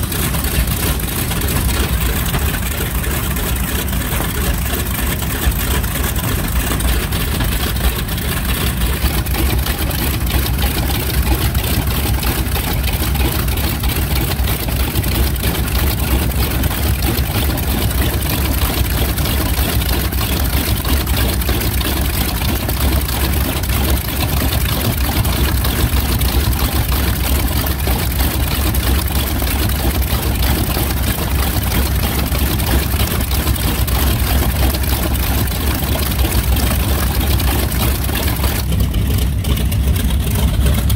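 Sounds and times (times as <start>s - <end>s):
radial aircraft engines idling: 0.0s - 40.9s.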